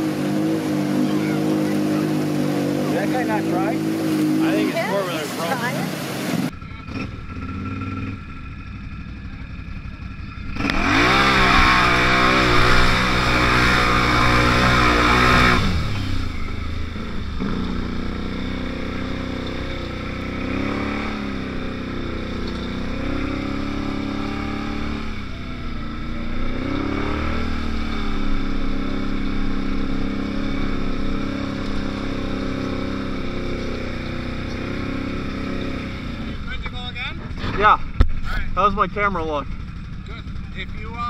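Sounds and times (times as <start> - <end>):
atv engine revving and idling: 0.0 - 41.0.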